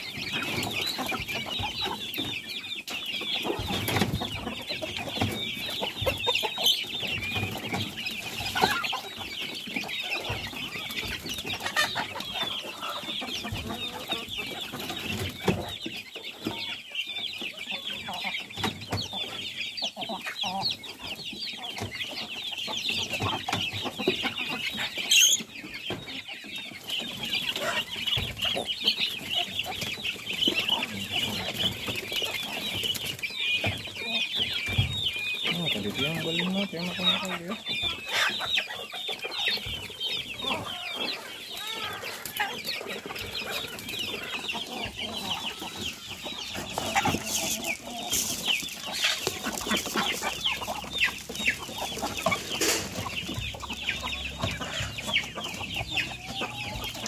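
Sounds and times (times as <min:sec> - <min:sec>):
chicks peeping and clucking: 0:00.0 - 0:57.0.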